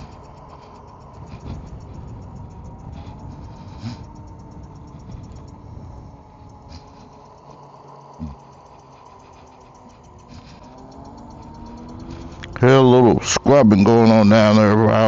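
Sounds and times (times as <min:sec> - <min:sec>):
electric motor whine: 0:00.0 - 0:15.0
rapid faint ticking: 0:00.0 - 0:15.0
wind and tyre rumble: 0:00.0 - 0:15.0.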